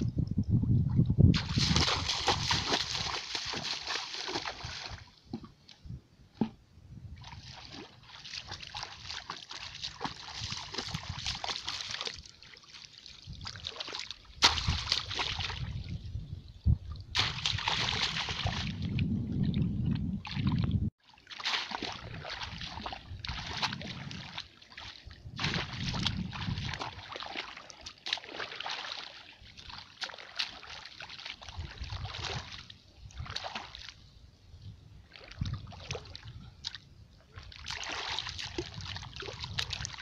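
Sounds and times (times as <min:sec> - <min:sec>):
muddy water splashing: 0:00.9 - 0:06.6, 0:07.2 - 0:16.1, 0:16.9 - 0:34.1, 0:35.0 - 0:40.0.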